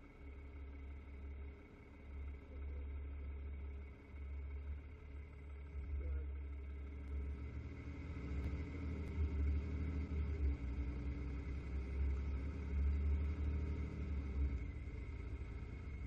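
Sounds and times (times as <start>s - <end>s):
diesel truck engine rumble: 0.0s - 16.0s.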